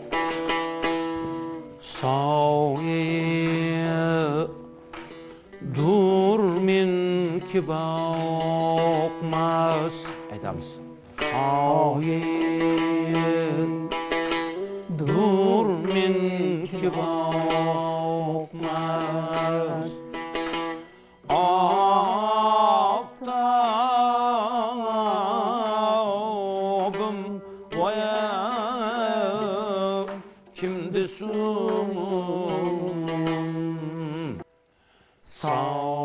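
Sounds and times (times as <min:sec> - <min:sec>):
plucked lute: 0:00.0 - 0:36.0
men singing call and response: 0:01.3 - 0:34.5, 0:35.2 - 0:36.0.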